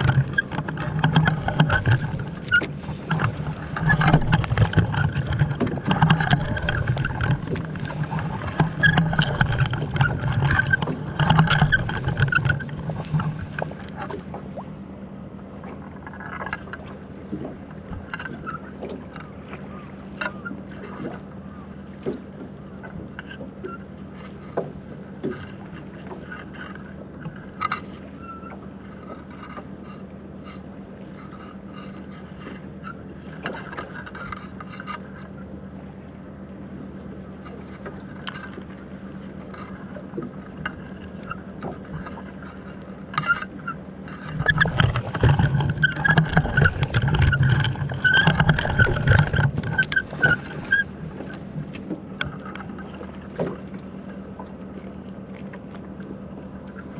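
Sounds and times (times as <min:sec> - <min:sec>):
muffled underwater hum: 0:00.0 - 0:56.9
rough churning water: 0:00.0 - 0:56.9.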